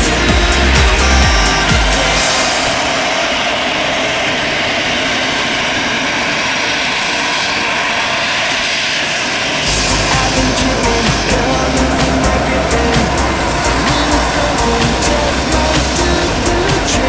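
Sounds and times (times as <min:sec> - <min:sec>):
deep rumble: 0:00.0 - 0:06.5, 0:09.3 - 0:17.0
jet engines rushing: 0:00.0 - 0:17.0.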